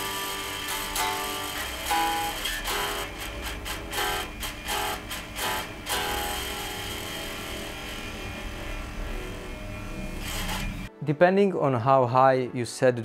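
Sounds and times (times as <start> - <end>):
electric guitar chords: 0.0 - 11.0.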